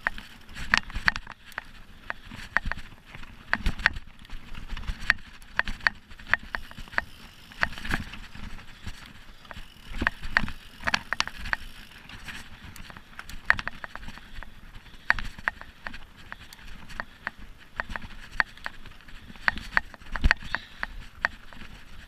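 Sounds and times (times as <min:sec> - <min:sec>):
bike clicks and rattles: 0:00.0 - 0:22.0.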